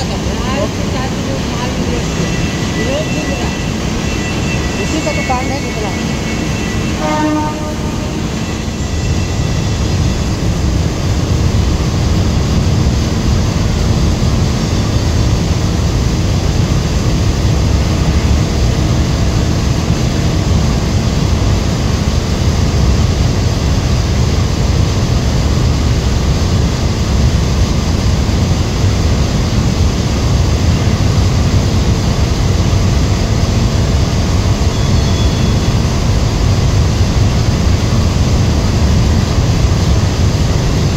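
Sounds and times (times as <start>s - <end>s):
deep rumble: 0.0s - 40.9s.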